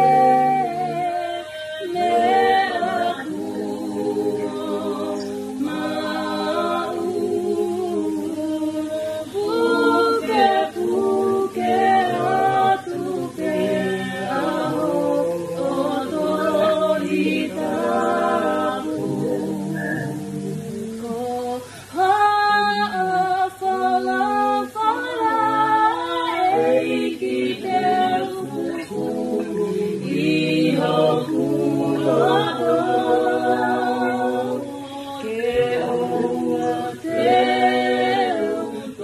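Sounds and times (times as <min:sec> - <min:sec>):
group singing a cappella: 0:00.0 - 0:39.0.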